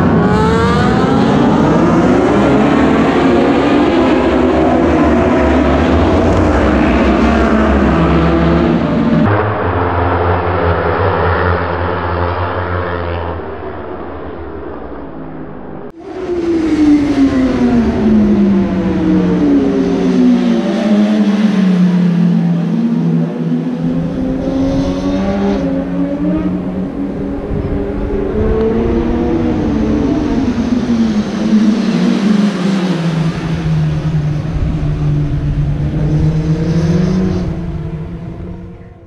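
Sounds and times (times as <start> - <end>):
racing motorcycle engines: 0.0 - 39.0.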